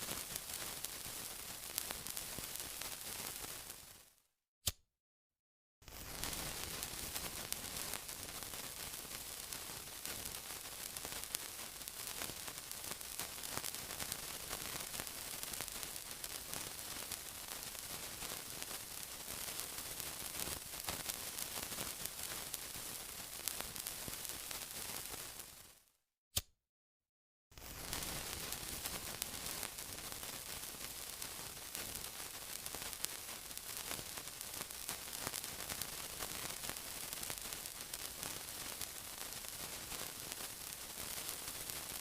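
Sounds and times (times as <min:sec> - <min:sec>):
sizzling with fine crackles: 0:00.0 - 0:04.2, 0:05.8 - 0:25.9, 0:27.5 - 0:42.0.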